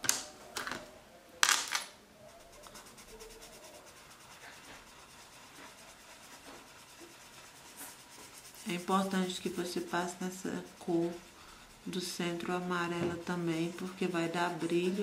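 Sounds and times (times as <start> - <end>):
pencil scratching on paper: 2.2 - 15.0.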